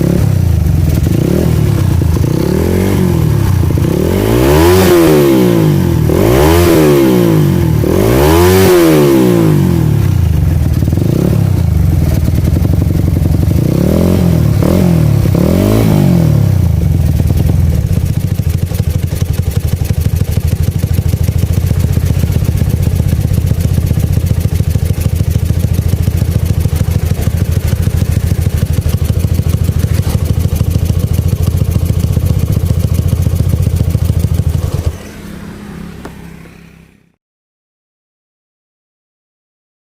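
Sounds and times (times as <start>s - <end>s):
motorcycle engine revving and idling: 0.0s - 37.2s.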